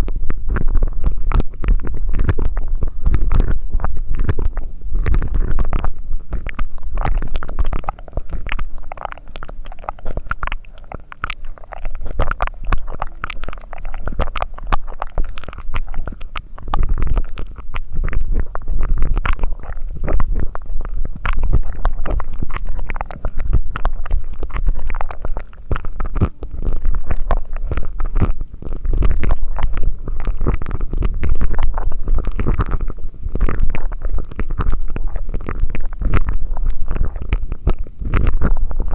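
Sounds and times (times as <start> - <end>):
wet mouth clicks: 0.0 - 38.9.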